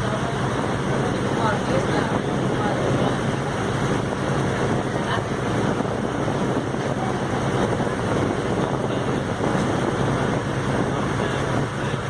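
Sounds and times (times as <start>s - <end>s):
boat engine running: 0.0s - 12.0s
water noise: 0.0s - 12.0s
wind on microphone: 0.0s - 12.0s.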